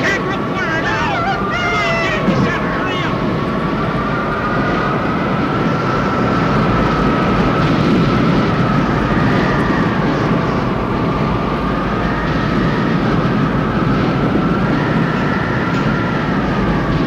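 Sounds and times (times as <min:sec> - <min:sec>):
tornado wind howling: 0:00.0 - 0:17.0.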